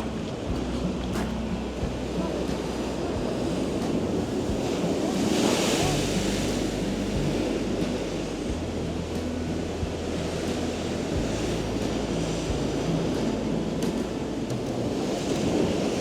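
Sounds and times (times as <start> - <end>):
storm waves crashing on wall: 0.0 - 16.0
wind buffeting microphone: 0.0 - 16.0.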